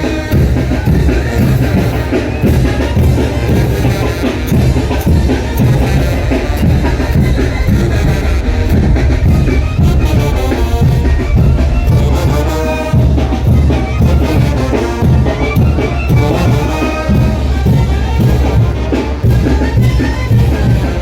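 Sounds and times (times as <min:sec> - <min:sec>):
brass band playing: 0:00.0 - 0:21.0
drums beating: 0:00.0 - 0:21.0.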